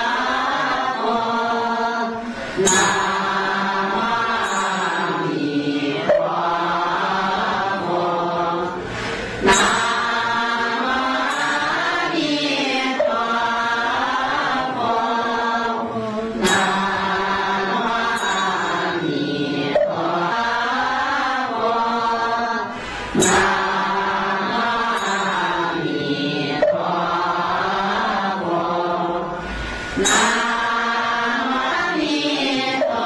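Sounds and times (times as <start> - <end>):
person chanting: 0.0 - 33.0.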